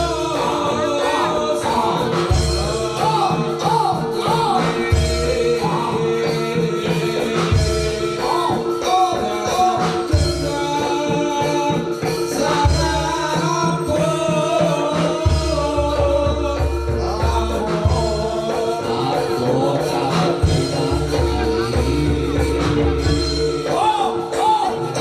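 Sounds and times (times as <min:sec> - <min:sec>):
gamelan music: 0:00.0 - 0:25.0
high wavering melody: 0:00.0 - 0:25.0.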